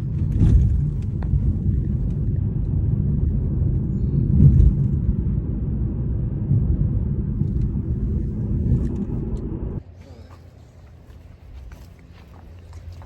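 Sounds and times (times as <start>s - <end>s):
vehicle road noise rumble: 0.0s - 13.0s.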